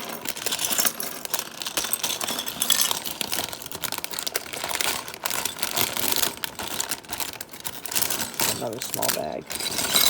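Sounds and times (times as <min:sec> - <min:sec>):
plastic bags crinkling: 0:00.0 - 0:10.0
plastic pieces clicking and rattling: 0:00.0 - 0:10.0.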